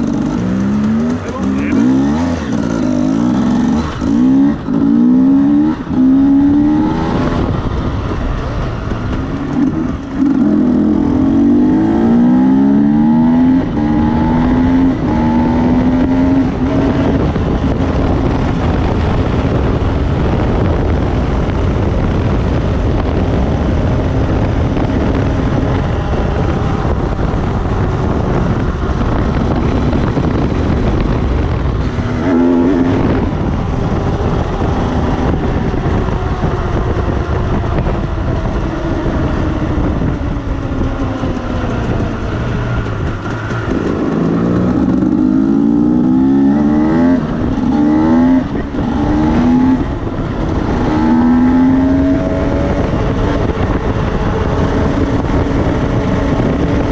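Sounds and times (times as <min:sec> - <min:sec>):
motorcycle engines revving: 0:00.0 - 0:56.9.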